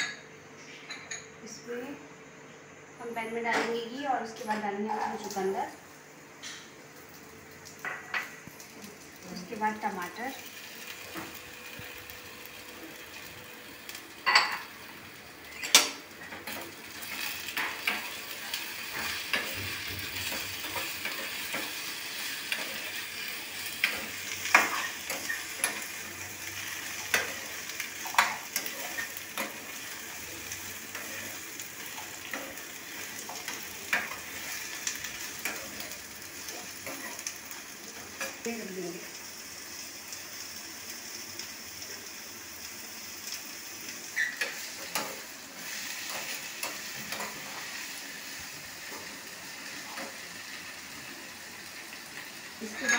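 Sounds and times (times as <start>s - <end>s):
vegetables sizzling in a pan: 3.0s - 52.9s.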